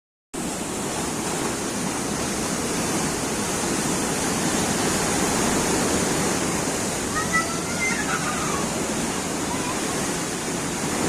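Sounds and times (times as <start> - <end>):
heavy sea surf: 0.4 - 11.0.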